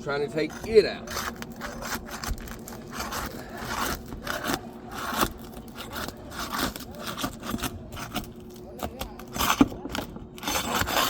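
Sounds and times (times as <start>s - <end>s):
metal bar scraping shingles: 0.0s - 11.0s.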